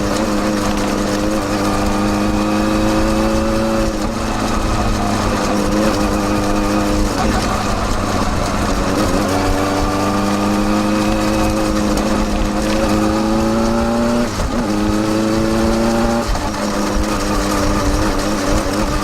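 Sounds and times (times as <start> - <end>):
motorcycle exhaust accelerating: 0.0 - 19.0.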